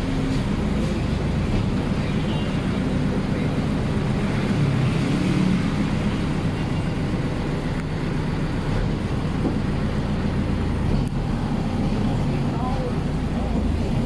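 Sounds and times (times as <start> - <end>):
road rumble and wind: 0.0 - 14.0
tram engine humming: 0.0 - 14.0.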